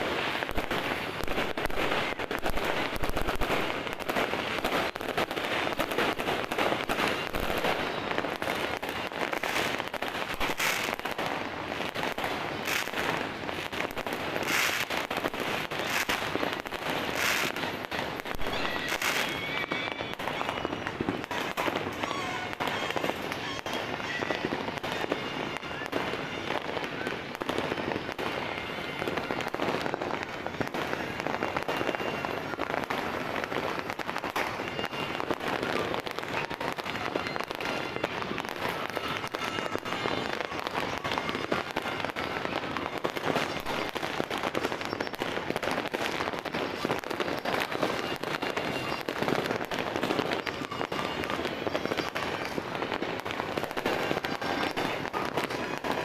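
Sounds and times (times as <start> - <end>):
fireworks and firecrackers popping: 0.0 - 56.0.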